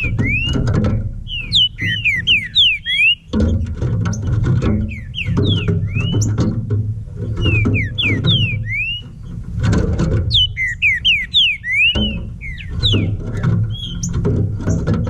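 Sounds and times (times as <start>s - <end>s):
bird singing whistled notes: 0.0s - 6.5s, 7.2s - 9.4s, 10.3s - 14.9s.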